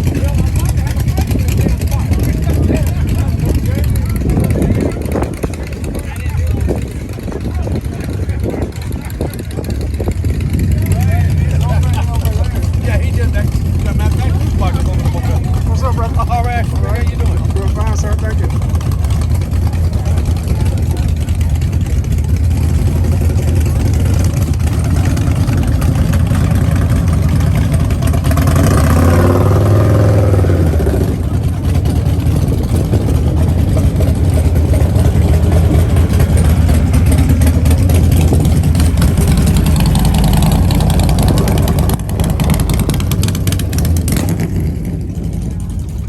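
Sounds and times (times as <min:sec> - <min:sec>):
car engine rumbling: 0:00.0 - 0:46.0.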